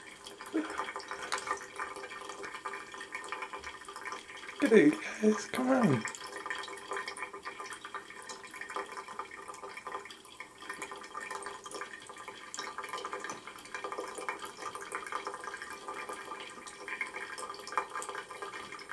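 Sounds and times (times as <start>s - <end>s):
water trickling from a tap: 0.0s - 18.9s.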